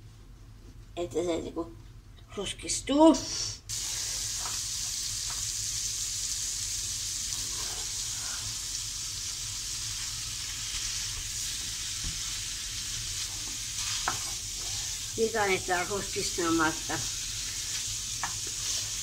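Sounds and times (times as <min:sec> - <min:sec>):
meat sizzling in a frying pan: 0:03.7 - 0:19.0.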